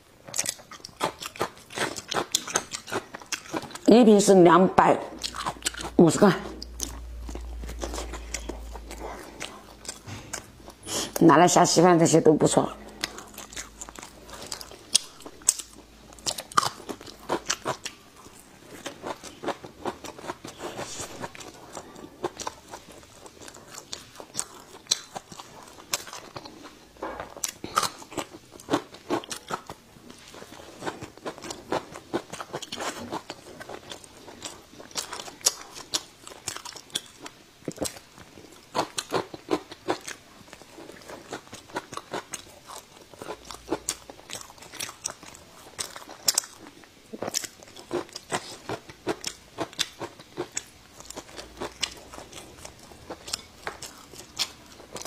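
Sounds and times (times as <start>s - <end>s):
quiet chewing: 0.2s - 3.9s, 5.1s - 11.2s, 12.8s - 55.0s
crunching pickled ginger: 0.2s - 4.3s, 12.8s - 55.0s.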